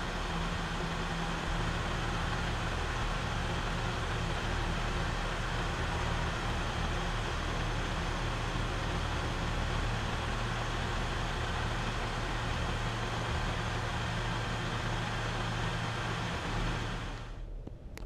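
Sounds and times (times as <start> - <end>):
pickup truck idling: 0.0 - 17.4.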